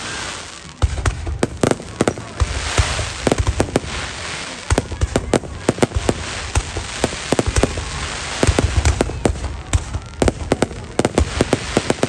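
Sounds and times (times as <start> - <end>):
fireworks bangs and pops: 0.0 - 12.0
fireworks crackling hiss: 0.0 - 12.0.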